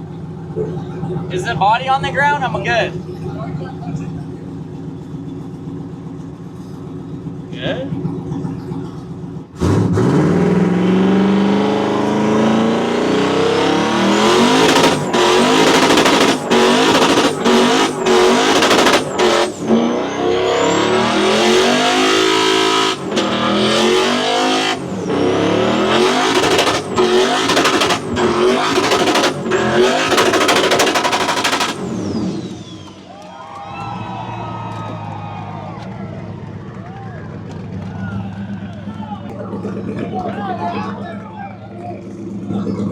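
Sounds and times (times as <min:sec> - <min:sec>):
car engine revving: 0:00.0 - 0:34.9, 0:35.8 - 0:42.9.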